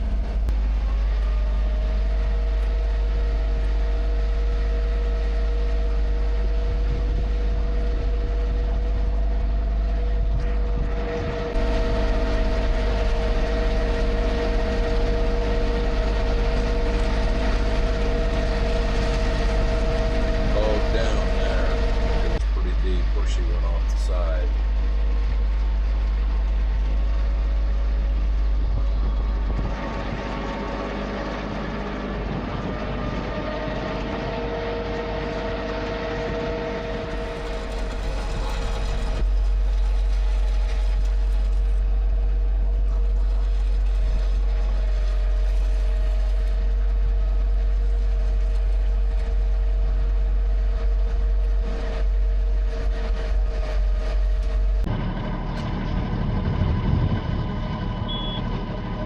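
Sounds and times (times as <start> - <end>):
steady whine: 0.0 - 59.0
tractor engine drone: 0.0 - 59.0.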